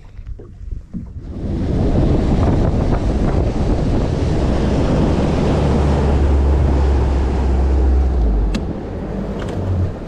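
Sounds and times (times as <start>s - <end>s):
outboard motor droning: 0.0s - 10.0s
wind and water rushing: 0.0s - 10.0s.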